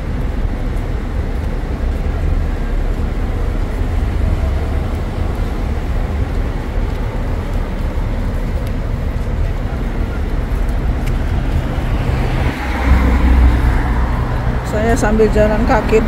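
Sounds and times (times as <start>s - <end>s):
cars passing on road: 0.0s - 16.0s
heavy low rumble: 0.0s - 16.0s.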